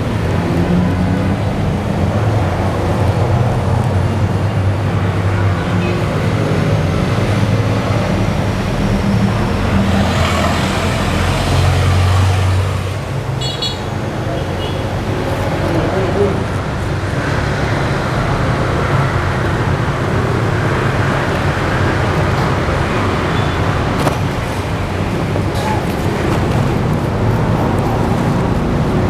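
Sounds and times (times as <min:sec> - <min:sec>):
road traffic: 0:00.0 - 0:29.0
vehicle engines running: 0:00.0 - 0:29.0.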